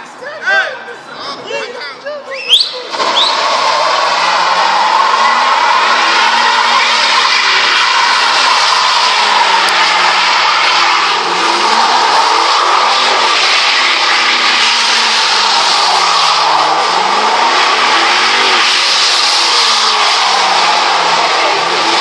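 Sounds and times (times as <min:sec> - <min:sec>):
tyres screeching: 0:02.3 - 0:22.0
car engine revving: 0:02.5 - 0:22.0.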